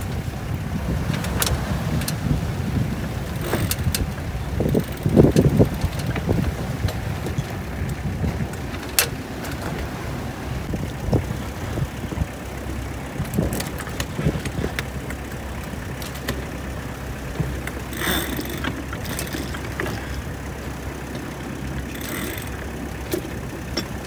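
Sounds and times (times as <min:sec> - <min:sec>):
low rumble: 0:00.0 - 0:24.0
wind and water rushing: 0:00.0 - 0:24.0.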